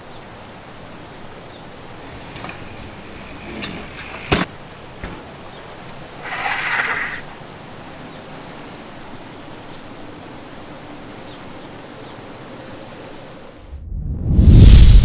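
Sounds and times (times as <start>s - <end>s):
steady hiss: 0.0s - 13.5s.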